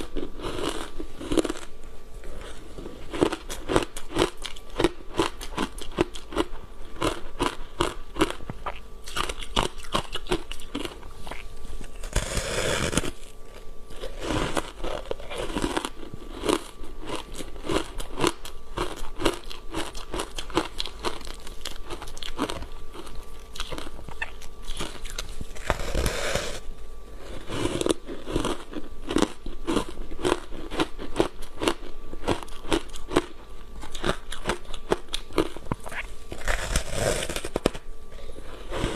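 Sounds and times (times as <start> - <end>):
crunchy ice being chewed: 0.0 - 38.9.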